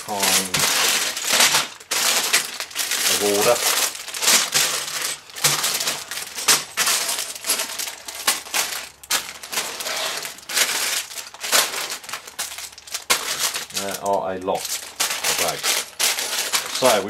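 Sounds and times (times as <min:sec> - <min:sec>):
plastic bags crinkling: 0:00.0 - 0:17.0
plastic bricks rattling: 0:00.0 - 0:17.0.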